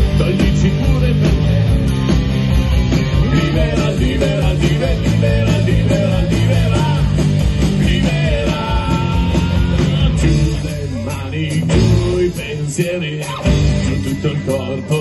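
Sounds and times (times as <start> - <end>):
bass guitar: 0.0 - 15.0
drums: 0.0 - 15.0
electric guitars: 0.0 - 15.0.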